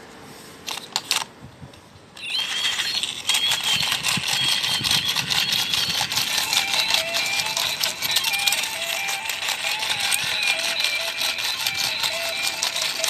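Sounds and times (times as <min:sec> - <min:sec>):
toy gears clicking rapidly: 0:00.7 - 0:01.3, 0:02.2 - 0:13.0
high electronic tune: 0:02.2 - 0:13.0.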